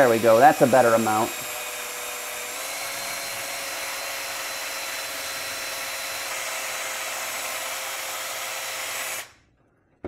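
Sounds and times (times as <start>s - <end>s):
drill motor whine: 0.0s - 9.3s.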